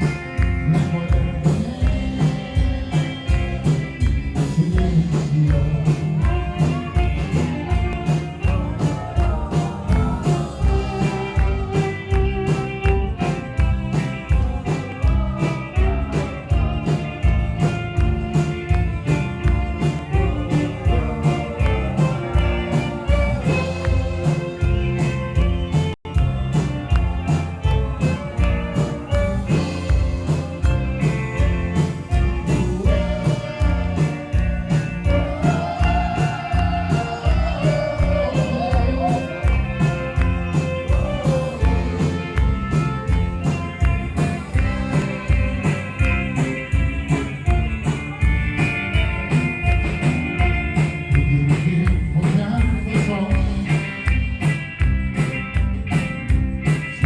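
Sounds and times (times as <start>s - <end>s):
rock band music: 0.0s - 57.0s.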